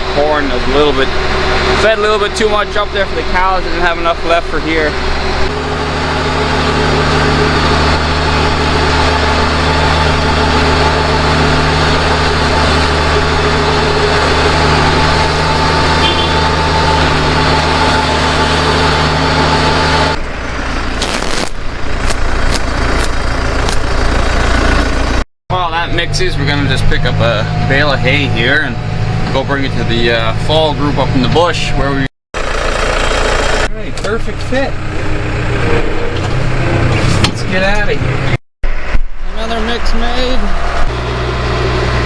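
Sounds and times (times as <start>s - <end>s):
tractor engine running: 0.0s - 42.0s.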